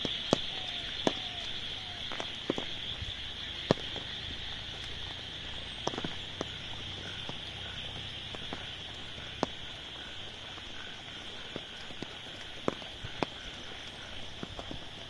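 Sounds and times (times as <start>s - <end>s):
animals calling: 0.0s - 15.0s
rain on an umbrella: 0.0s - 15.0s.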